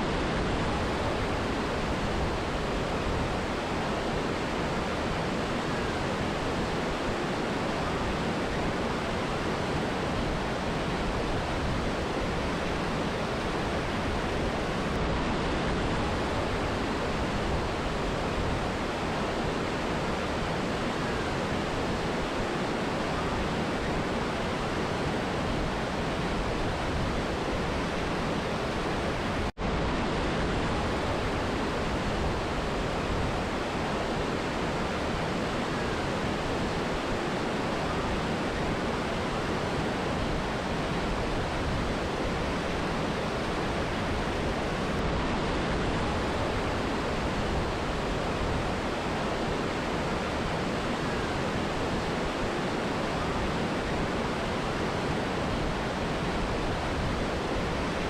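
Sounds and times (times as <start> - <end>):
river and waterfall rushing: 0.0 - 58.0.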